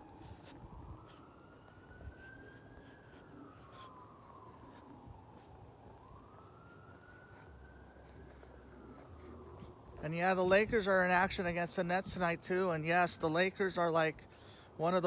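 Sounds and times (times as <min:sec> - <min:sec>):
faint emergency siren wailing: 0:00.0 - 0:15.0.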